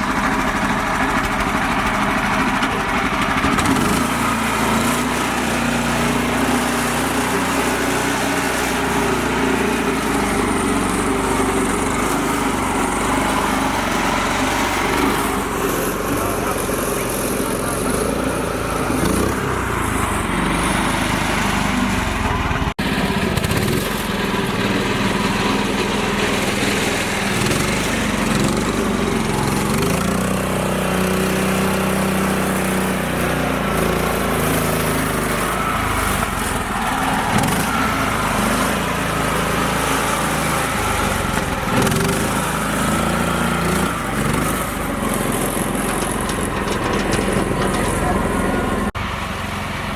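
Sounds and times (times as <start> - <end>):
small tractor engine running: 0.0 - 49.9.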